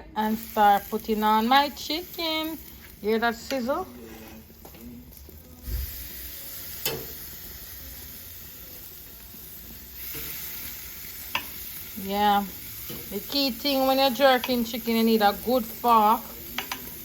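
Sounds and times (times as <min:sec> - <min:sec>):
chicken sizzling on a grill: 0:00.0 - 0:17.0.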